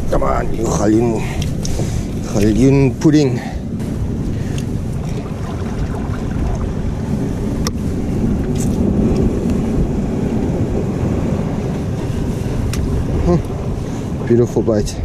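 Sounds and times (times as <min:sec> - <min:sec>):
surf on rocky shore: 0:00.0 - 0:15.0
wind rumble on microphone: 0:00.0 - 0:15.0.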